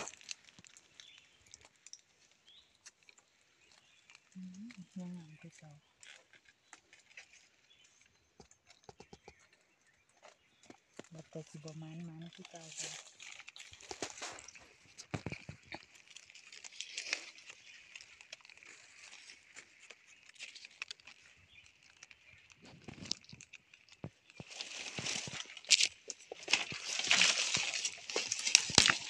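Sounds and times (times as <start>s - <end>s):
twigs snapping: 0.0s - 4.8s, 10.2s - 29.0s
dry leaves and twigs rustling: 0.0s - 29.0s.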